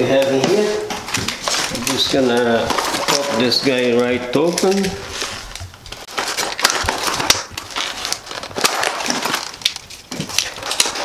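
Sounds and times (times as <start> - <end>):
stiff plastic packaging cracking: 0.0 - 11.0.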